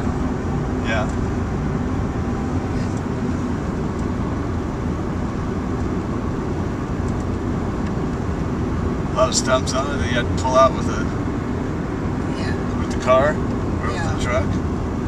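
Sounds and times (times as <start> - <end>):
car road noise from cabin: 0.0 - 15.0.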